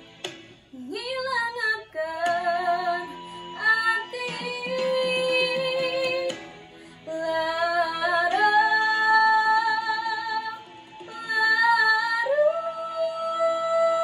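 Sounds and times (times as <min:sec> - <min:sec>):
girl singing sustained notes: 0:00.8 - 0:06.4, 0:07.0 - 0:14.0.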